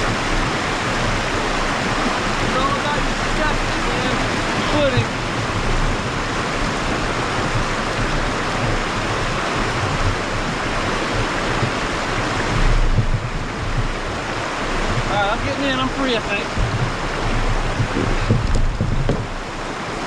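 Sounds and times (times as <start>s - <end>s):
low thumps: 0.0s - 15.1s, 16.4s - 19.8s
water rushing over rocks: 0.0s - 20.0s.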